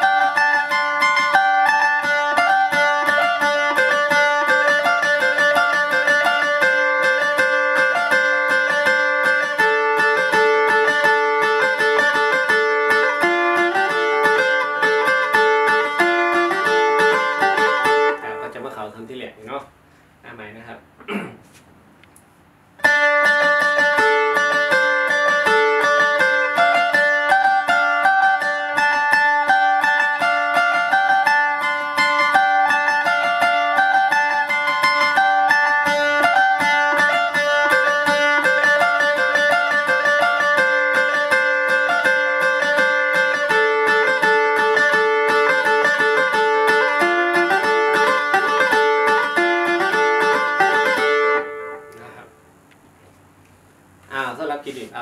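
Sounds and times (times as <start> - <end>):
plucked string instrument melody: 0.0 - 19.2, 22.8 - 52.6.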